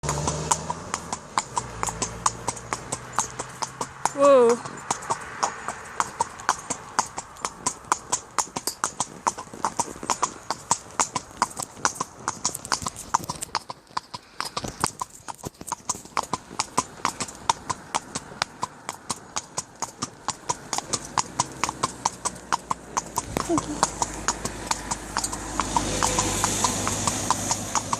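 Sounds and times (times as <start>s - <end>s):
horse hooves clopping: 0.0s - 27.9s.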